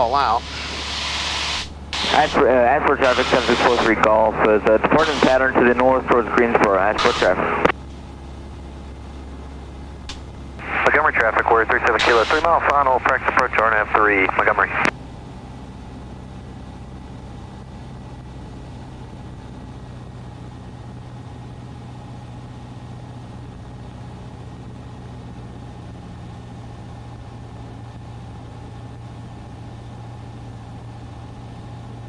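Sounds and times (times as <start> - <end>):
airplane engine drone in cabin: 0.0 - 32.0.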